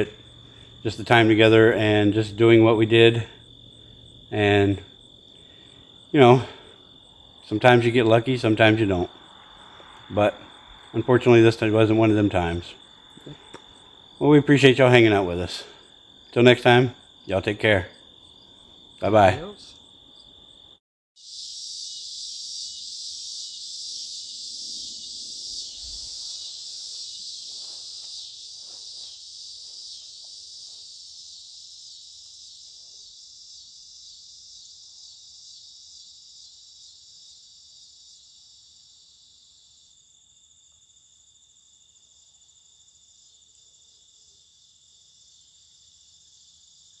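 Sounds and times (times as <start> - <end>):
insects shrill buzzing: 0.0 - 43.5.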